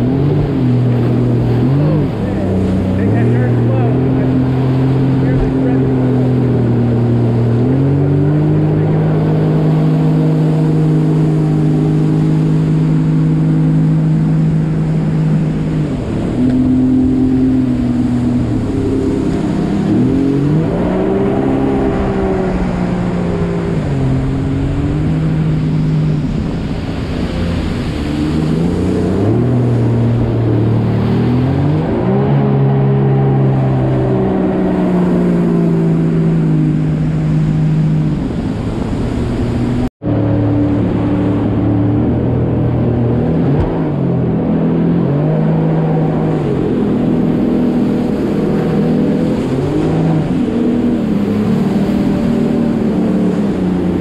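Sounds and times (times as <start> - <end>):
jet ski engine revving: 0.0 - 54.0.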